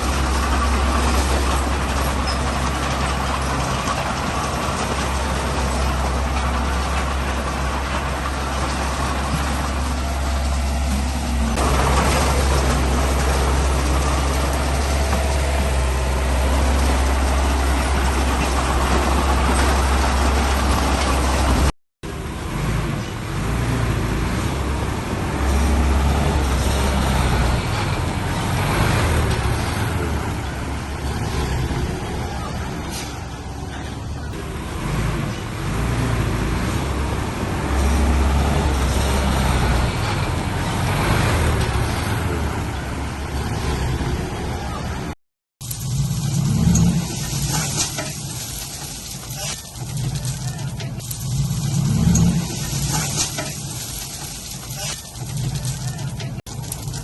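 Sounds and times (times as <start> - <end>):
diesel machinery engine rumble: 0.0 - 57.0.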